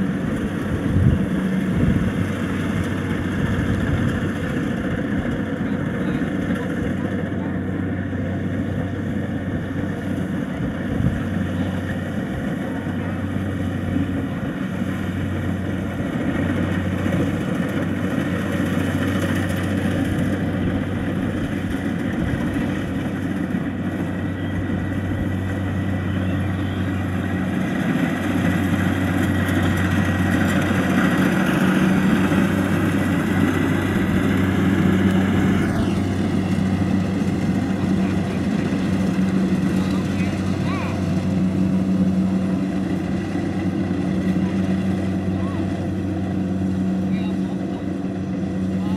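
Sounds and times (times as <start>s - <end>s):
combine harvester humming: 0.0s - 48.9s.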